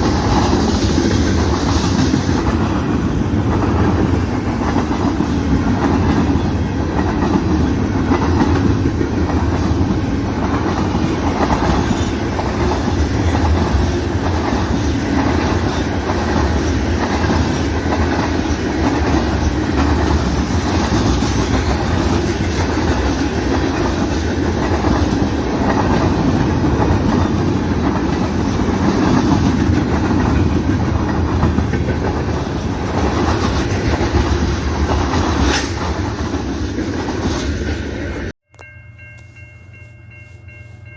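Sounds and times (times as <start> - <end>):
wheels clacking over rail joints: 0.0 - 38.2
freight train rumbling past: 0.0 - 38.3.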